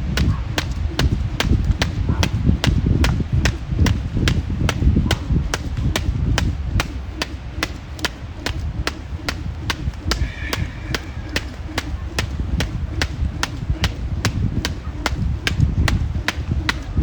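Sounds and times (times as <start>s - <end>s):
jump rope slapping ground: 0.0s - 17.0s
low rumble: 0.0s - 17.0s.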